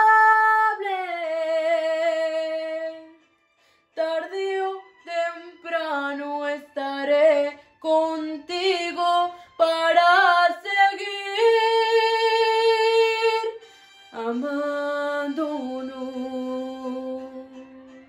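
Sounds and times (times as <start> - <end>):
woman singing ballad: 0.0 - 3.2, 4.0 - 18.0.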